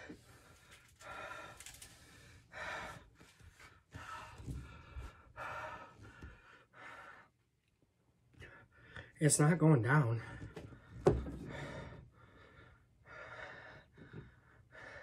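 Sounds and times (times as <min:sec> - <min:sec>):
man breathing hard: 0:00.0 - 0:07.5, 0:10.3 - 0:15.0.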